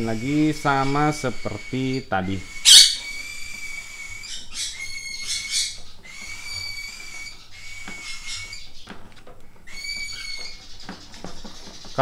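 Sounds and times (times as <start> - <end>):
cockatiels whistled calls: 0.0 - 9.0, 9.6 - 12.0.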